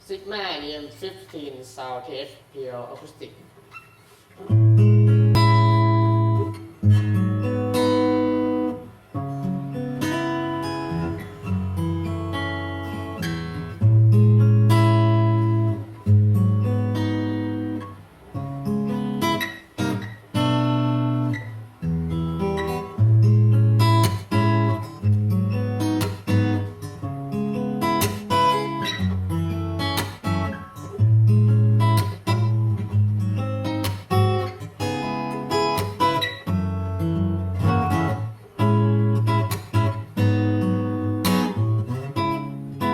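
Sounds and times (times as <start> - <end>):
acoustic guitar chords strummed: 3.8 - 42.9.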